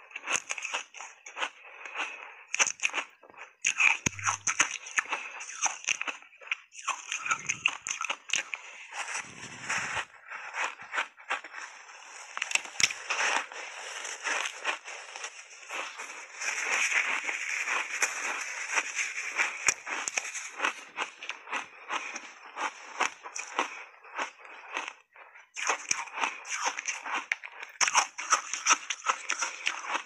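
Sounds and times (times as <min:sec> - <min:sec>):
crunching and chewing ice: 0:00.0 - 0:30.0.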